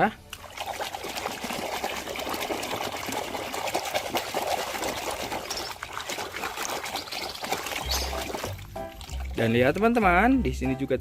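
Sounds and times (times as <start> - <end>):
water trickling and splashing: 0.2 - 10.5.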